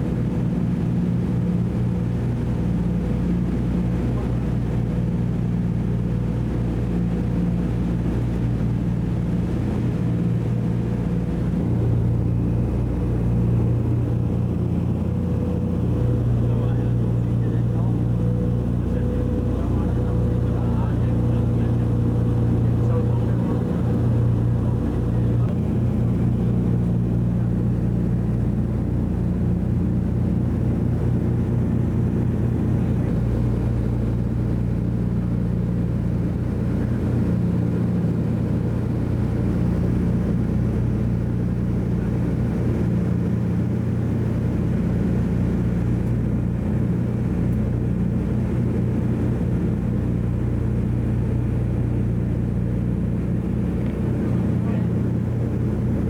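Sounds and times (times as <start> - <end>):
propeller plane engines droning: 0.0 - 56.0.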